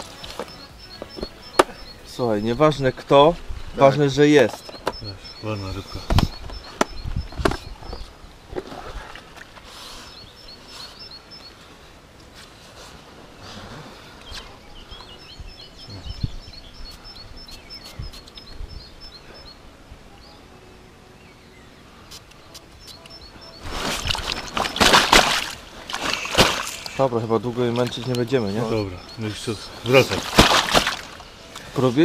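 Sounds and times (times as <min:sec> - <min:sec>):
outdoor background noise: 0:00.0 - 0:32.0
songbird chirping: 0:00.0 - 0:32.0.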